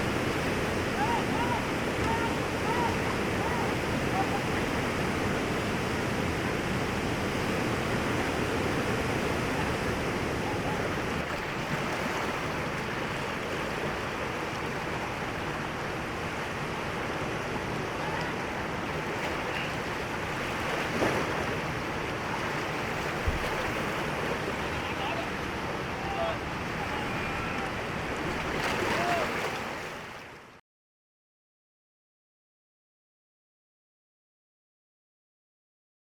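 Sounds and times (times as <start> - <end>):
whitewater rapids rushing: 0.0 - 30.4.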